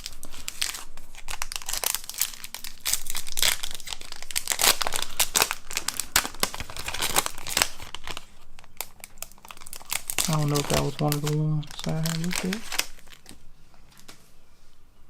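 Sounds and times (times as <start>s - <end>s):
foil wrapper crinkling and tearing: 0.0s - 14.1s.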